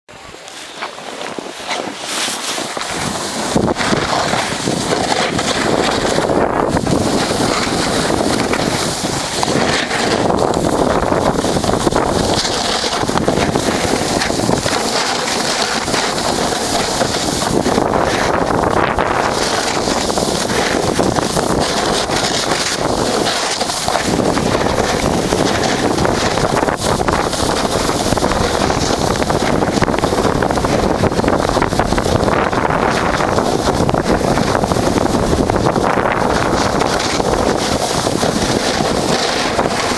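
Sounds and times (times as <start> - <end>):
wind rushing over microphone: 0.1 - 39.9
skis hissing on snow: 0.3 - 39.9.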